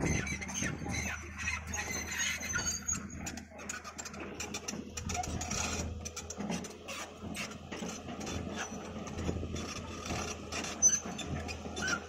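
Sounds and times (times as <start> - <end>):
crawler tracks clicking and rattling: 0.0 - 12.0
excavator engine hum: 0.0 - 12.0.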